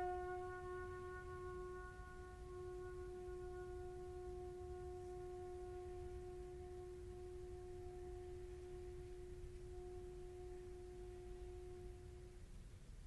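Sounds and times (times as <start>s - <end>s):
flute and piano held note: 0.0s - 12.5s
low hall hum: 0.0s - 13.0s.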